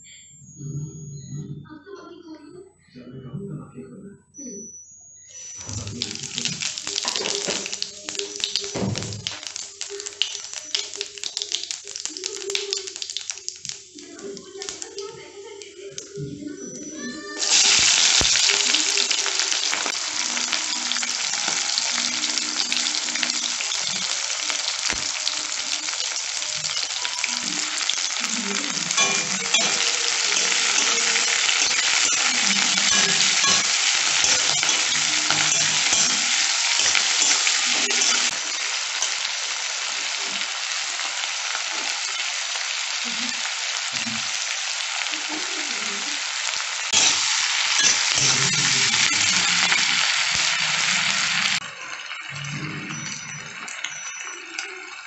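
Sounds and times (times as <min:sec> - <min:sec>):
onions sizzling in hot oil: 0:05.4 - 0:15.7, 0:16.7 - 0:55.0.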